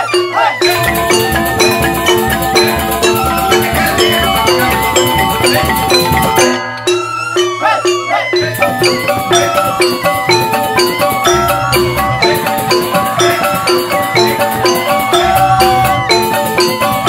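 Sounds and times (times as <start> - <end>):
hand drumming: 0.0 - 17.0
mallet keys playing fast pattern: 0.0 - 17.0.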